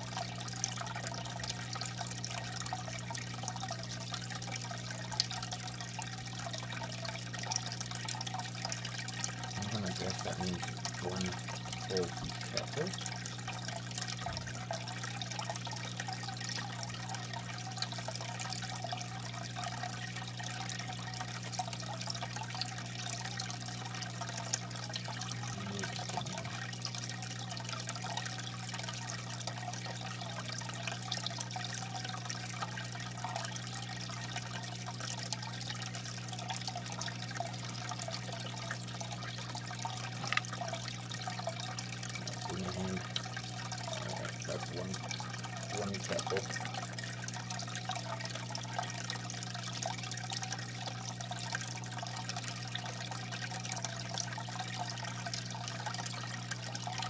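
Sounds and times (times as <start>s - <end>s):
low electric hum: 0.0s - 57.0s
water trickling and splashing: 0.0s - 57.0s.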